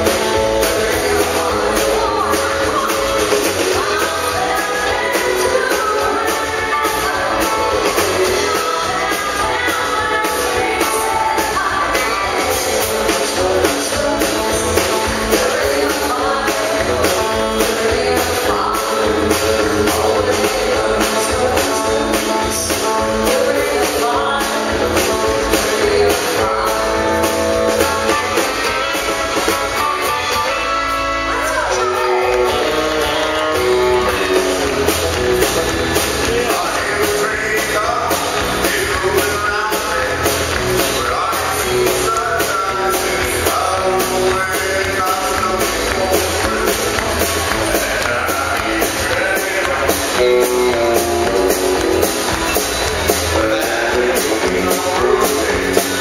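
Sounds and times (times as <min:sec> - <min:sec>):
country band playing: 0:00.0 - 0:56.0
person singing: 0:00.0 - 0:56.0.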